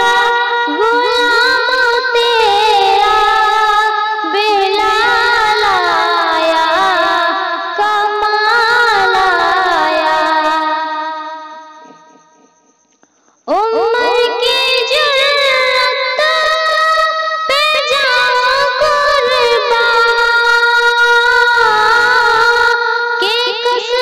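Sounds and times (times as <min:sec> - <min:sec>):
woman singing devotional song: 0:00.0 - 0:12.5, 0:13.4 - 0:24.0.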